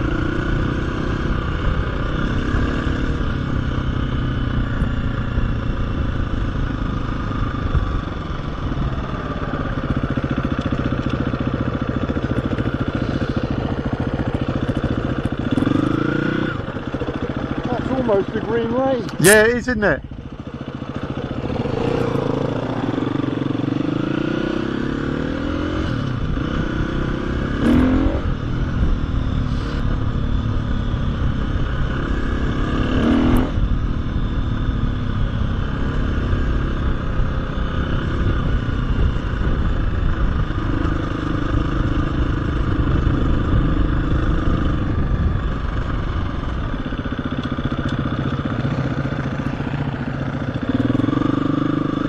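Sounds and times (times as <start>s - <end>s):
dirt bike engine revving: 0.0s - 33.8s, 34.7s - 52.0s.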